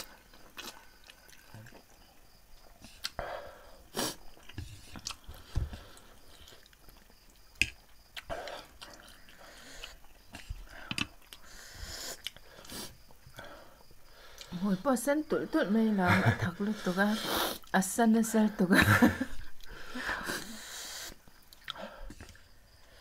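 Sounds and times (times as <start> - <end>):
people chewing noodles: 0.0 - 14.7, 19.0 - 23.0.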